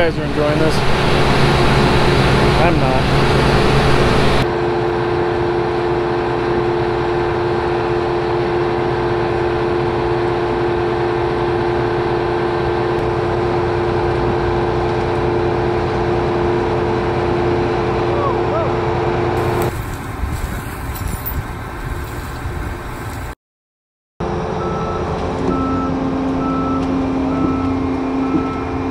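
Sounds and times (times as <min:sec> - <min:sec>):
diesel engine running: 0:00.0 - 0:23.4, 0:24.2 - 0:28.9
whining hum: 0:00.0 - 0:23.4.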